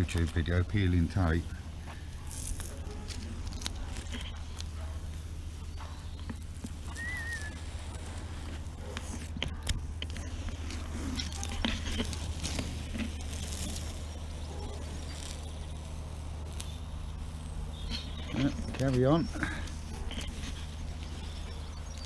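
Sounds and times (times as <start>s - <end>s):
masking tape peeling crackle: 0.0s - 22.0s
steady low hum: 0.0s - 22.0s.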